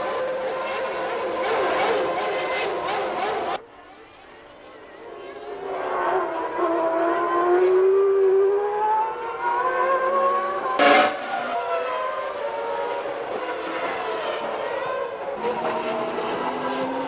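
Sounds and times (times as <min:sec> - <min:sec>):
racing car engines revving: 0:00.0 - 0:04.0, 0:04.9 - 0:17.0.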